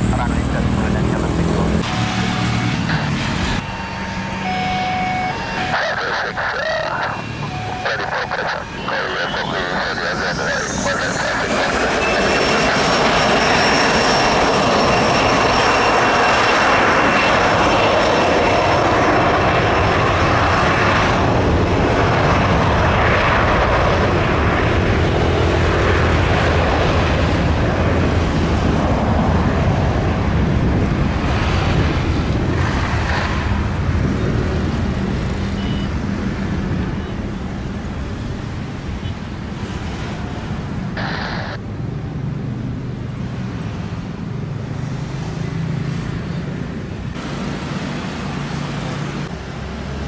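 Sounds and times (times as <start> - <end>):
jet engine roar with whine: 0.0 - 50.0.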